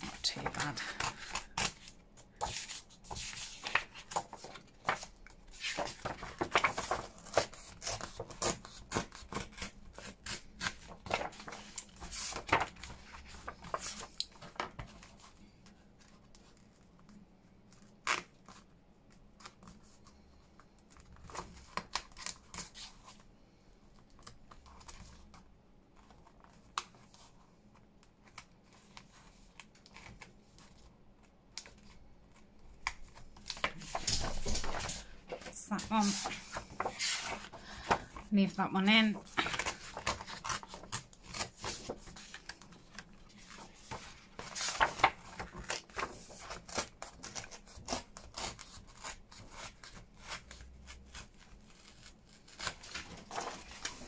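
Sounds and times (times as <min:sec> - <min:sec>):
book pages rustling and tearing: 0:00.0 - 0:23.3, 0:24.0 - 0:54.0.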